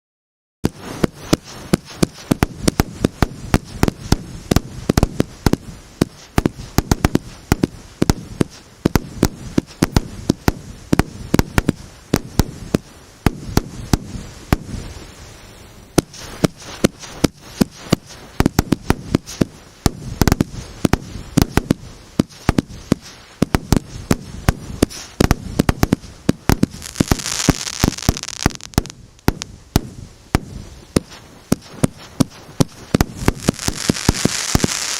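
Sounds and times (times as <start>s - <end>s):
fireworks hissing crackle: 0.6s - 34.9s
fireworks launching and bursting: 0.6s - 34.9s.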